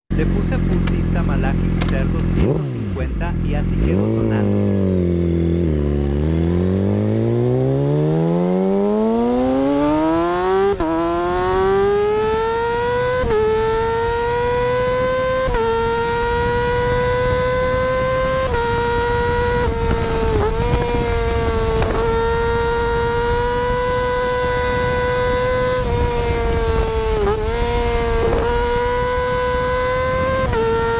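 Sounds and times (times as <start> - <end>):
motorcycle engine accelerating: 0.1 - 30.9.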